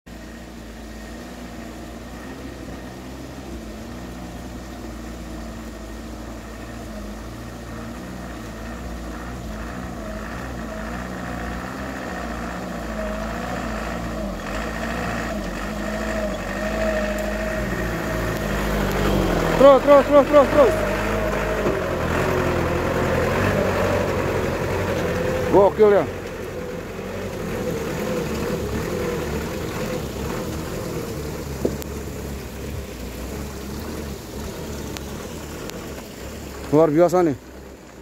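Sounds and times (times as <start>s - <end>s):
diesel engine running: 0.1s - 38.0s.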